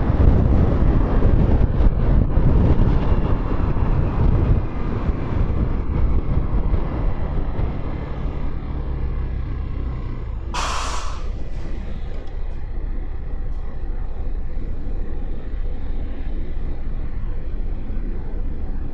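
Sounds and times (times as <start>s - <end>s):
wind rushing over microphone: 0.0s - 18.9s.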